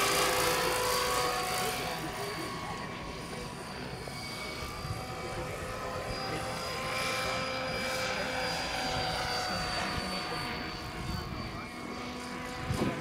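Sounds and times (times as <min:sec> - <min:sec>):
model helicopter motor whine: 0:00.0 - 0:13.0.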